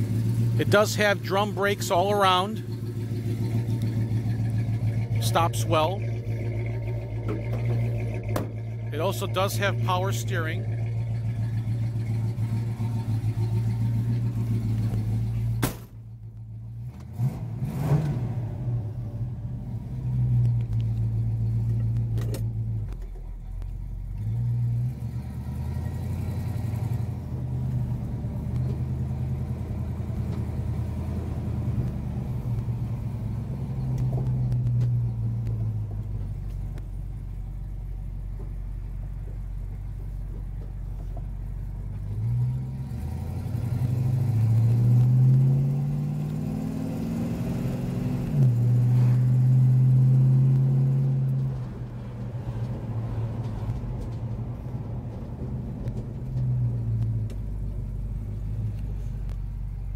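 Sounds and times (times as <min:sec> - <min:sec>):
car engine revving: 0:00.0 - 0:15.9, 0:16.5 - 0:59.9.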